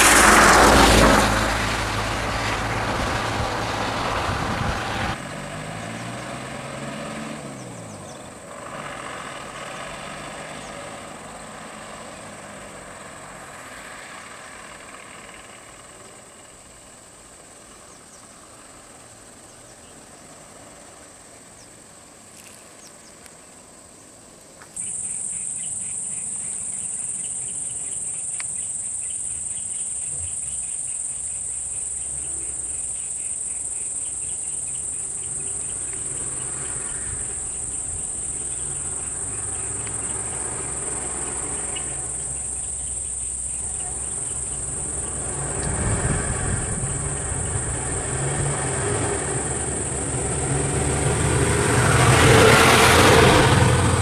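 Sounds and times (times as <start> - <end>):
high-pitched insect chorus: 0.0 - 4.8, 7.4 - 54.0.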